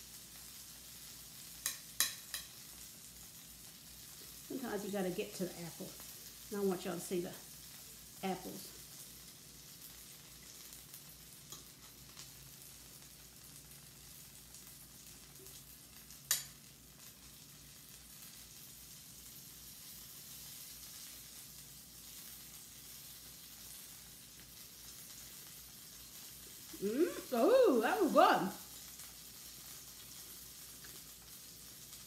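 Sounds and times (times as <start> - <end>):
butter sizzling in a frying pan: 0.0 - 32.0.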